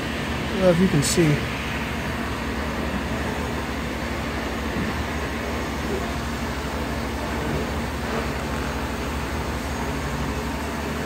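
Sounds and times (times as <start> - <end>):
industrial machinery drone: 0.0 - 11.0.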